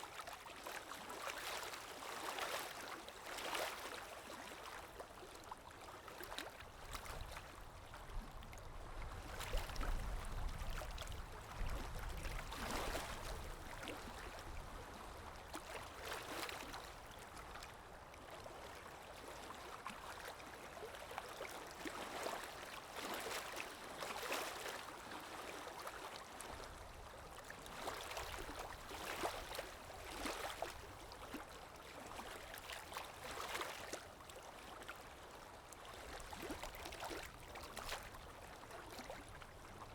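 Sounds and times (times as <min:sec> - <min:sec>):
river water lapping and gurgling: 0:00.0 - 0:39.9.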